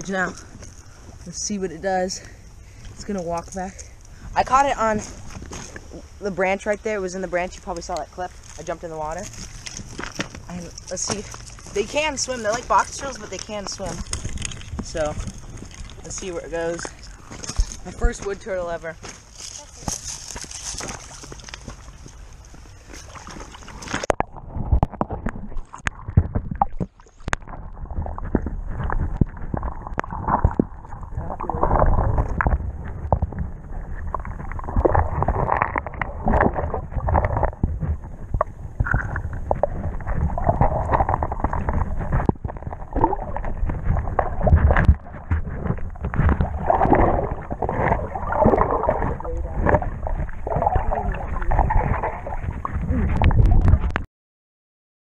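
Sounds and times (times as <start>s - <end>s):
underwater creek rumble and gurgle: 0.0s - 54.0s
clicks and knocks underwater: 2.7s - 54.1s.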